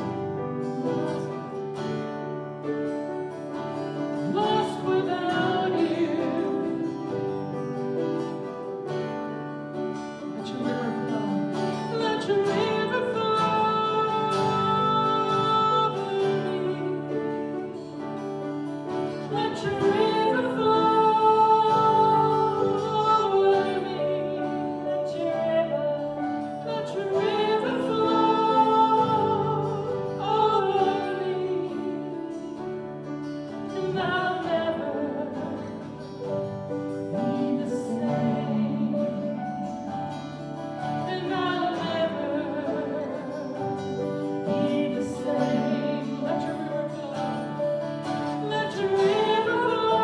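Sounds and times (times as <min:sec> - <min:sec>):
person singing: 0:00.0 - 0:50.0.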